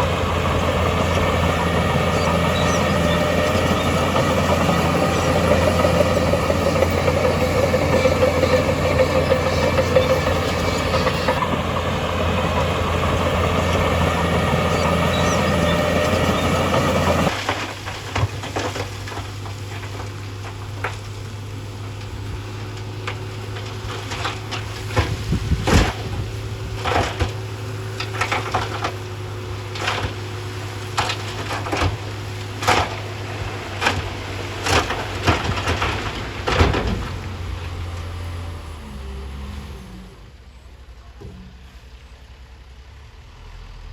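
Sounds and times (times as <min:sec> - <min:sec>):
diesel engine running: 0:00.0 - 0:18.1, 0:19.1 - 0:43.9.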